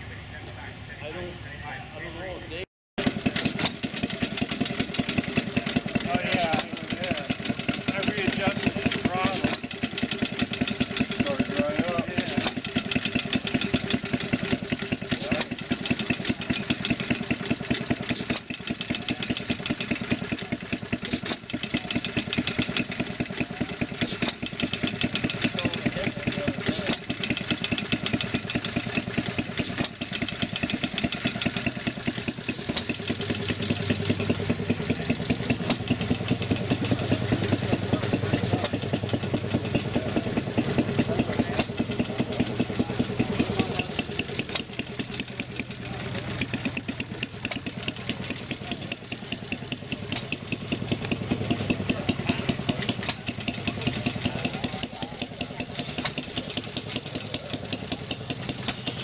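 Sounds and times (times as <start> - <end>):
stationary gas engines running: 0.0 - 59.0.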